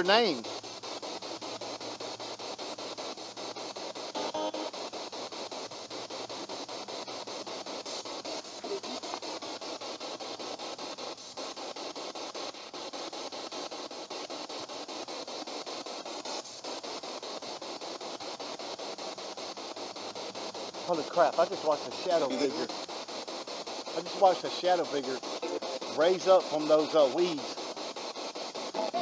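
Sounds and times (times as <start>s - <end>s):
broken broadcast fragments: 0.0s - 29.0s
choppy radio static: 0.0s - 29.0s.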